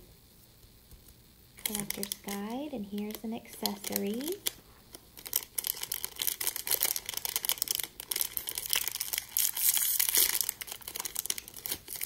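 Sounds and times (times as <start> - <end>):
plastic packet crackling and rustling: 1.6 - 12.0.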